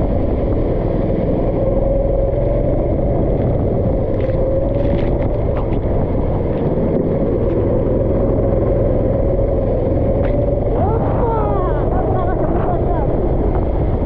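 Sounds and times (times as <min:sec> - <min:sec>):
go-kart engine running: 0:00.0 - 0:14.0
steady noisy rush: 0:00.0 - 0:14.0.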